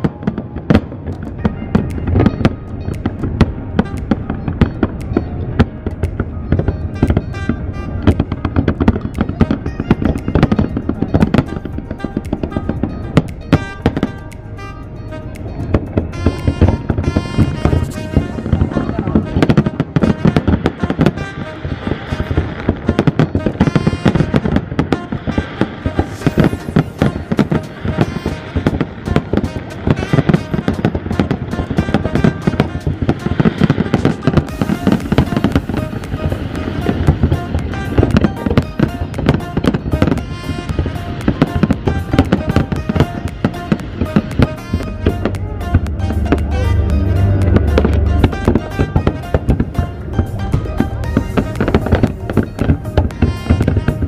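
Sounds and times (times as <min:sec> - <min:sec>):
fireworks bursting: 0:00.0 - 0:54.0
music playing: 0:00.0 - 0:54.0.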